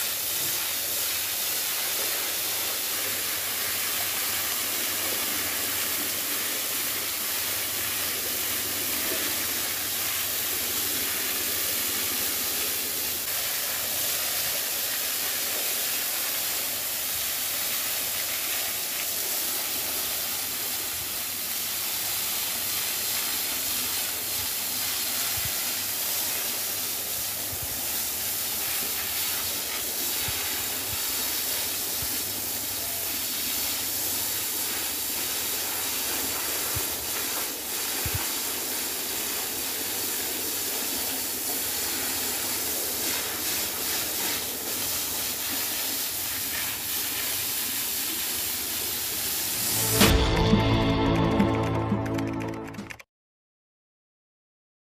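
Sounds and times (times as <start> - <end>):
hose water jet hissing: 0.0 - 51.1.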